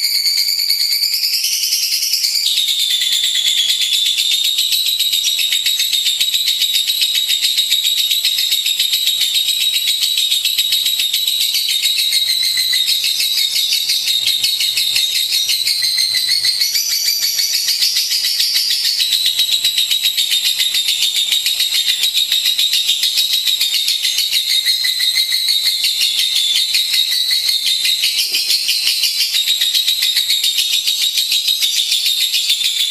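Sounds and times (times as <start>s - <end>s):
lovebird chattering trill: 1.5s - 32.9s.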